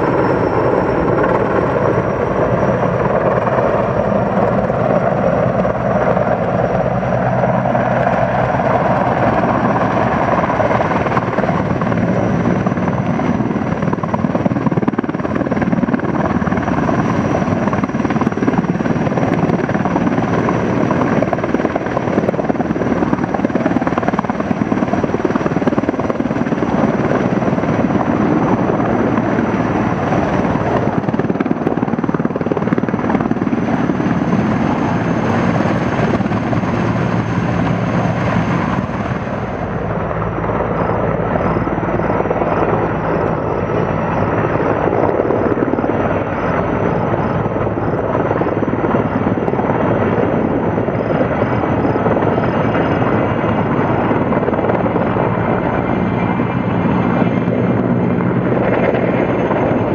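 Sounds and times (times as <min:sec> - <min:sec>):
helicopter rotor noise: 0:00.0 - 0:59.9
high turbine whine: 0:00.0 - 0:59.9.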